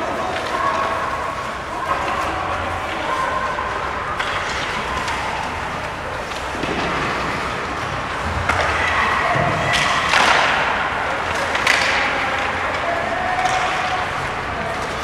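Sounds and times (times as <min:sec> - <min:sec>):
crowd and rink hum: 0:00.0 - 0:15.0
sharp clacks of sticks and puck: 0:00.0 - 0:15.0.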